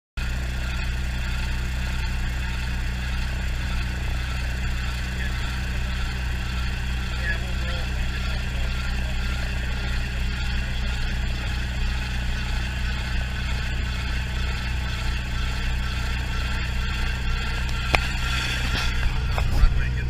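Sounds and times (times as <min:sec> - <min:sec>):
gyroplane engine running: 0:00.2 - 0:20.0.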